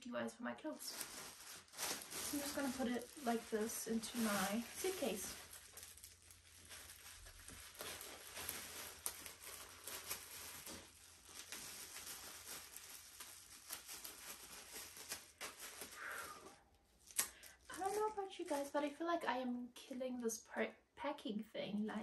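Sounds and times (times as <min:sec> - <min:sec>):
plastic bag crinkling: 0:00.7 - 0:18.8.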